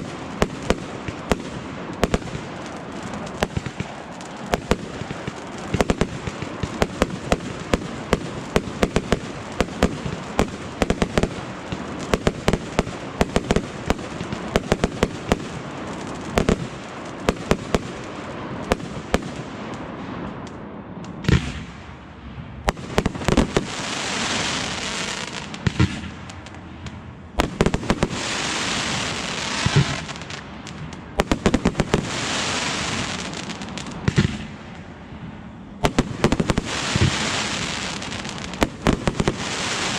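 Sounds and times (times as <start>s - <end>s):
crackling spark bursts: 0.0s - 34.7s, 35.8s - 39.9s
fireworks cracking and popping: 0.0s - 34.9s, 35.8s - 39.9s
firework bangs: 0.0s - 39.9s.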